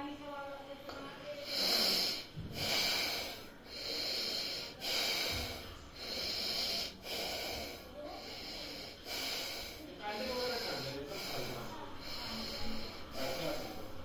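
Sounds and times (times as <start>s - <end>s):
man breathing forcefully through nose: 1.3s - 14.0s.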